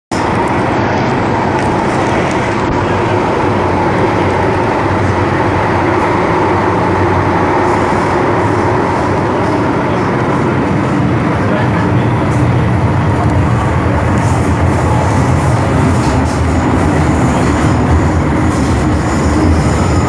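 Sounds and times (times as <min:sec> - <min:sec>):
train wheels rumbling: 0:00.1 - 0:20.0.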